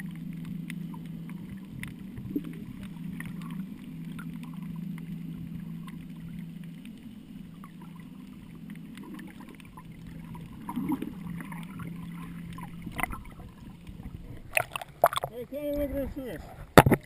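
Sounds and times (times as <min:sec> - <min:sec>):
underwater low hum: 0:00.0 - 0:17.0.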